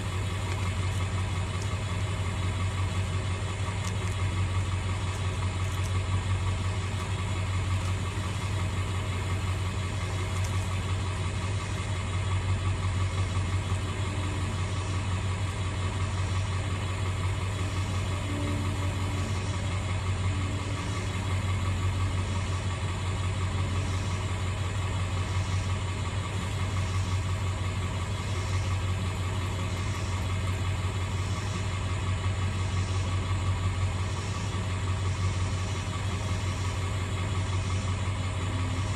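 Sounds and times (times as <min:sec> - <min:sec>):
pump motor droning: 0:00.0 - 0:38.9.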